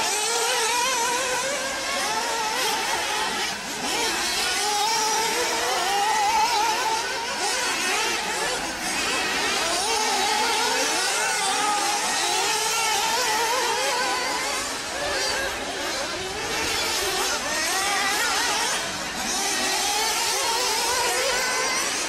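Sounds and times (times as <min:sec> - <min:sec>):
rc car motors buzzing: 0:00.0 - 0:22.0.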